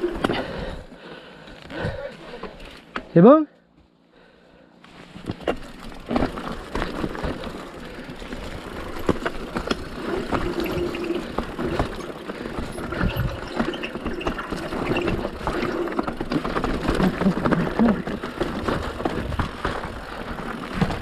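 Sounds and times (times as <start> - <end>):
bike rattling over bumps: 0.0 - 3.2, 4.9 - 21.0
bike tyres rolling on dirt: 0.0 - 3.2, 4.8 - 21.0.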